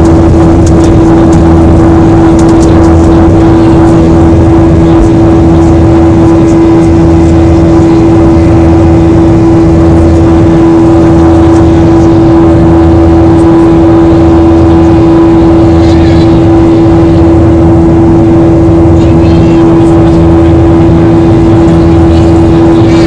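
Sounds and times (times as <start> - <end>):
jet engine cabin drone: 0.0 - 23.0.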